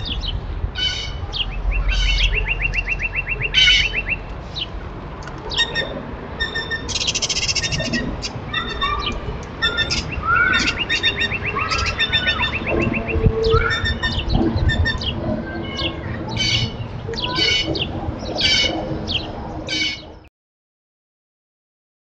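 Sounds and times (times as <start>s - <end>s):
bird trilling: 0.0s - 4.6s, 5.4s - 20.3s
blue jays calling: 0.1s - 20.2s.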